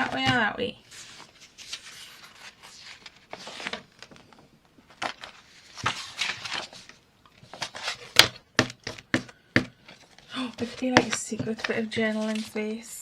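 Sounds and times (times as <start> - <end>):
paper rustling: 0.0 - 9.0, 9.8 - 12.9.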